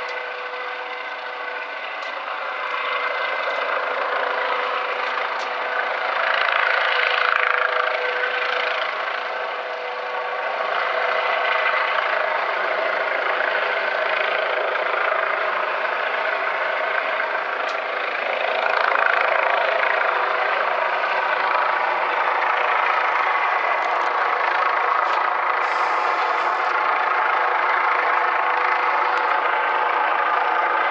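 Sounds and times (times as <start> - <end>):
helicopter rotor drone: 0.0 - 30.9.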